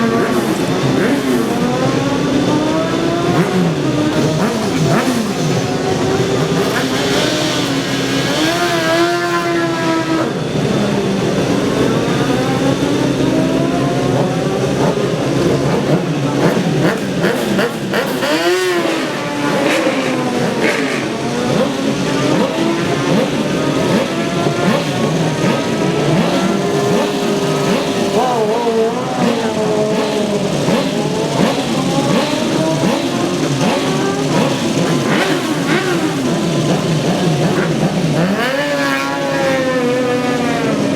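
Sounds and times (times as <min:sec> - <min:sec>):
superbike engines revving: 0:00.0 - 0:40.9.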